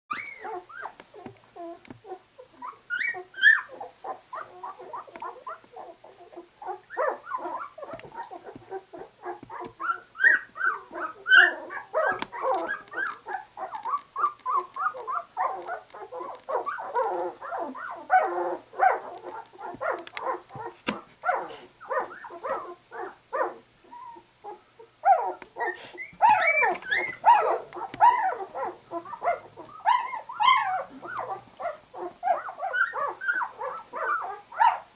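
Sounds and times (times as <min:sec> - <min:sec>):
puppies whimpering and squeaking: 0:00.1 - 0:34.8
high puppy squeals: 0:00.1 - 0:34.9.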